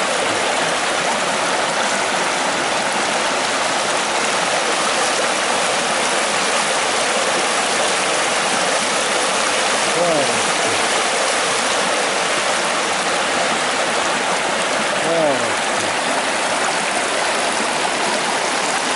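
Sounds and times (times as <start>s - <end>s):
water rushing over stones: 0.0s - 18.9s.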